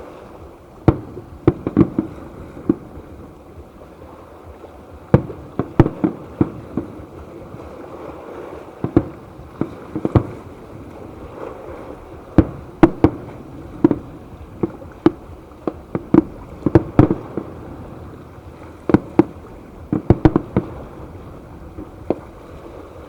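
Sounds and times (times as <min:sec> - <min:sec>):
fireworks bursting with sharp bangs: 0:00.0 - 0:03.7, 0:05.0 - 0:23.0.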